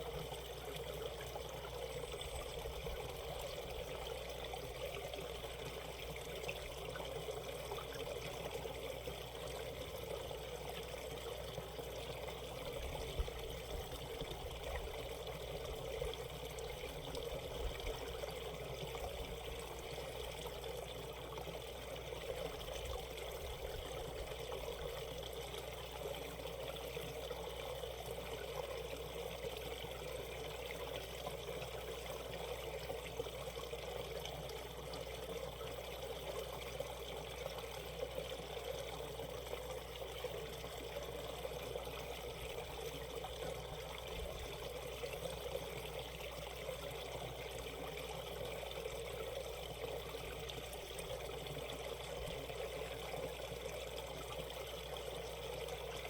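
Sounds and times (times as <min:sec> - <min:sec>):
stream trickling over rocks: 0:00.0 - 0:56.0.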